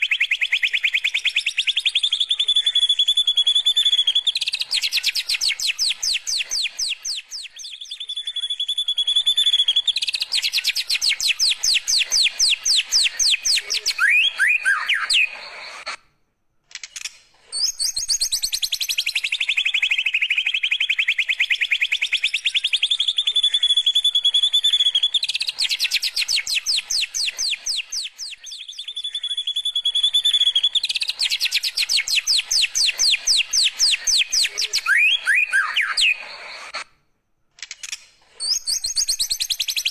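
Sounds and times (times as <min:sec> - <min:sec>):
bird singing whistles and trills: 0:00.0 - 0:16.0, 0:17.5 - 0:36.8, 0:38.4 - 0:39.9.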